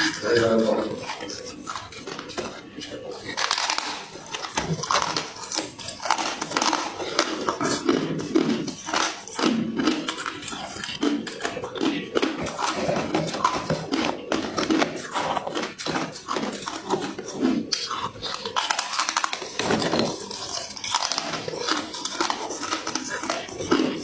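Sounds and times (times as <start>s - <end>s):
ice crunching between teeth: 0.0s - 24.0s.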